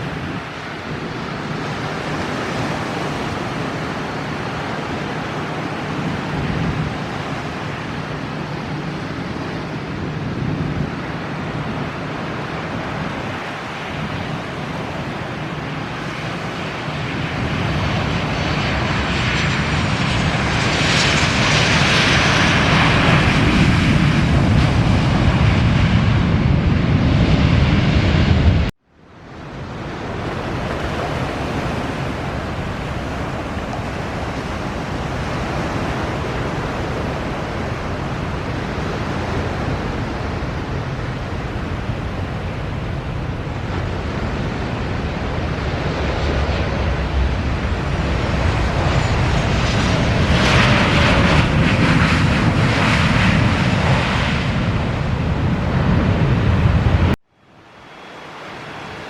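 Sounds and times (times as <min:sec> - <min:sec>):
jet engines roaring: 0:00.0 - 0:59.0
wind noise on microphone: 0:00.0 - 0:59.0.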